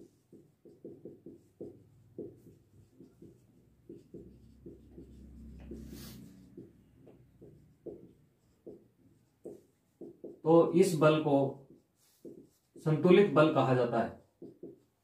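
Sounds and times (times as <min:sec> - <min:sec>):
marker scratching on whiteboard: 0:00.0 - 0:15.0.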